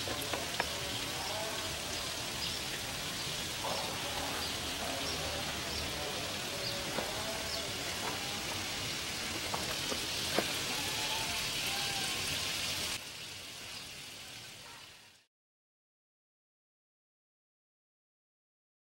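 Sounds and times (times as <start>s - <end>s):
sprinklers spraying water: 0.0s - 15.3s.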